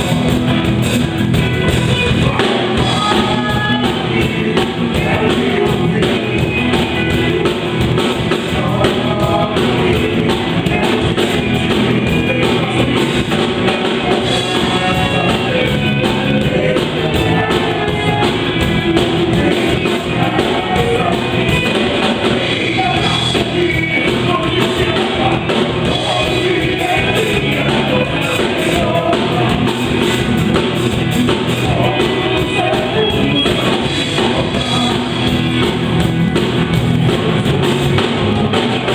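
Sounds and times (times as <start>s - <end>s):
drum kit: 0.0s - 38.9s
guitar: 0.0s - 38.9s
person singing: 1.5s - 35.9s, 37.0s - 38.9s.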